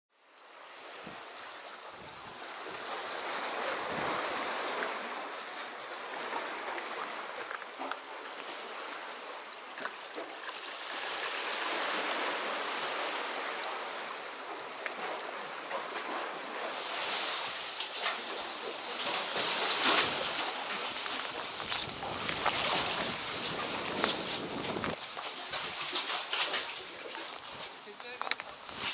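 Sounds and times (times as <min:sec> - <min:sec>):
sea waves washing against concrete: 0:00.5 - 0:28.9.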